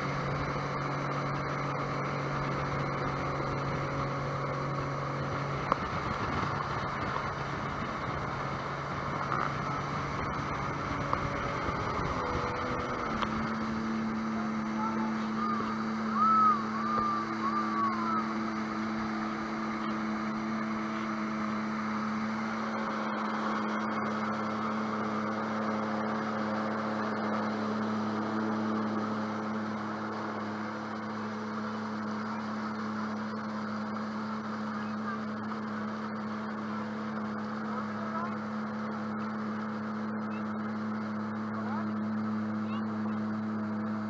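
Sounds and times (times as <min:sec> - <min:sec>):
boat engine running: 0:00.0 - 0:44.0
water rushing along hull: 0:00.0 - 0:44.0.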